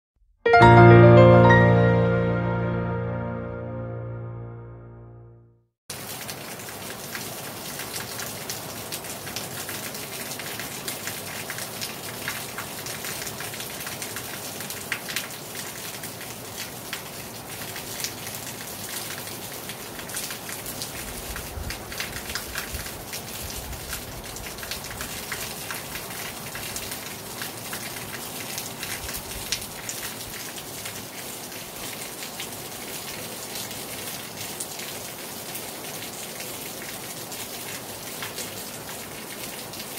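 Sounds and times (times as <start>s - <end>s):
heavy rain on a terrace: 5.9s - 39.9s.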